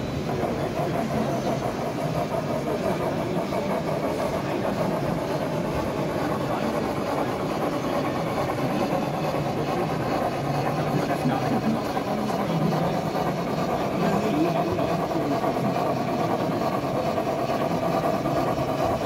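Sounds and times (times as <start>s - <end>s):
busy hall background din: 0.0s - 19.0s
model steam locomotive running: 0.0s - 19.0s.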